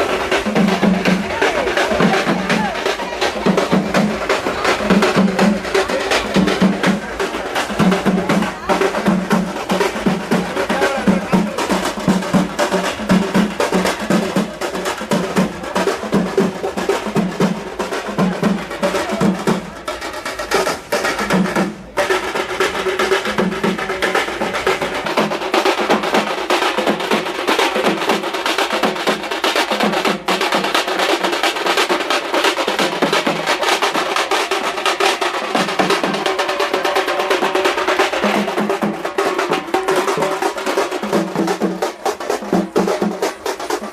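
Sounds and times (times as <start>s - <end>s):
loud dense drumming: 0.0s - 43.9s.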